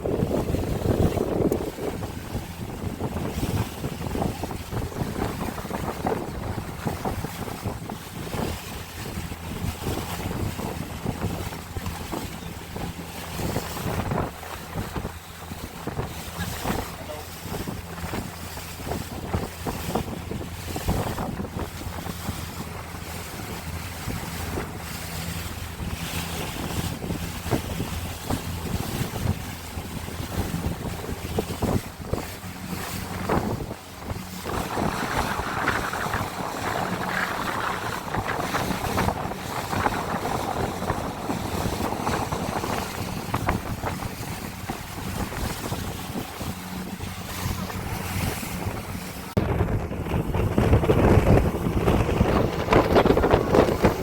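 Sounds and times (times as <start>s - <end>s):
boat engine humming: 0.0s - 54.0s
water rushing past hull: 0.0s - 54.0s
wind buffeting microphone: 0.0s - 54.0s.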